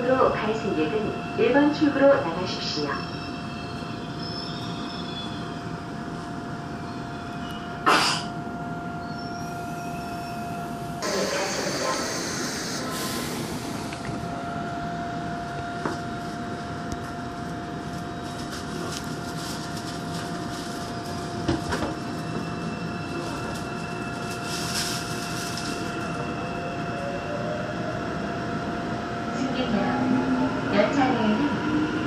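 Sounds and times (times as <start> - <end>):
rising train motor whine: 0.0 - 32.0
subway car hum: 0.0 - 32.0.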